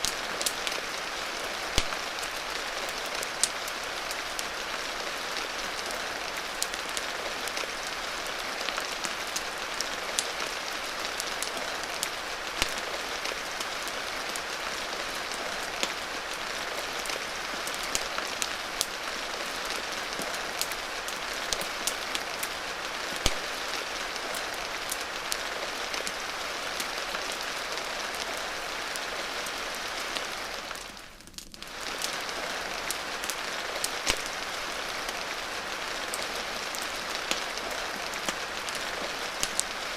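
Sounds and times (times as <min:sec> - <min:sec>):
rain hissing: 0:00.0 - 0:39.9.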